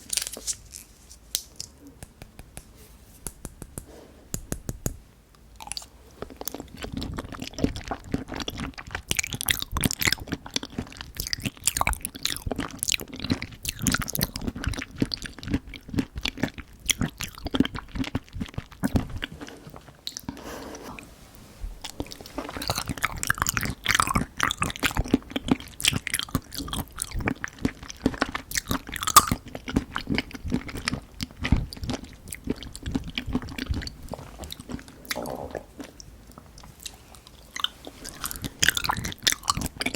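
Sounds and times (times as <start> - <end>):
chewing with wet clicks: 5.6 - 19.4, 20.0 - 20.3, 21.8 - 39.9.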